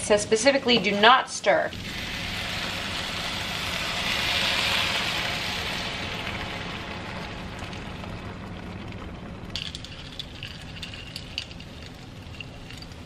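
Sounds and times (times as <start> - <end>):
broth sizzling in frying pan: 1.7 - 13.0.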